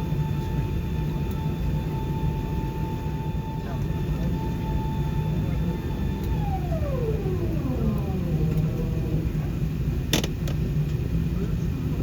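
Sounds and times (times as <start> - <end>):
machine whine spinning down: 0.0 - 9.8
aircraft cabin low hum: 0.0 - 12.0.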